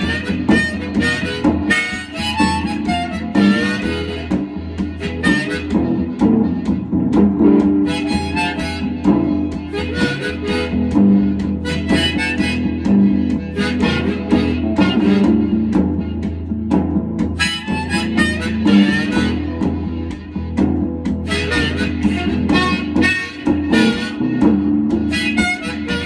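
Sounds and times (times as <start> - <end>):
harmonica playing blues: 0.0 - 26.0
strummed electric guitar: 0.0 - 26.0.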